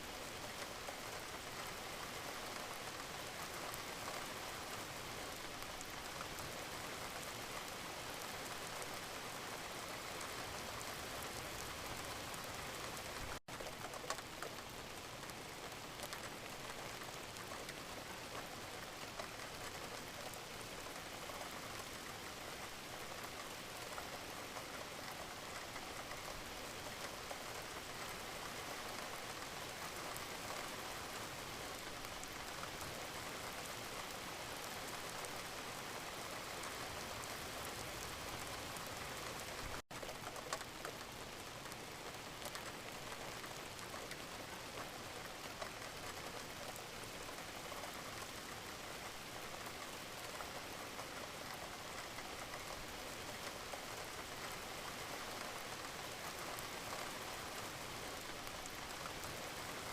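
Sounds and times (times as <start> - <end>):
steady rainfall: 0.0 - 59.9
raindrops ticking: 9.7 - 59.9.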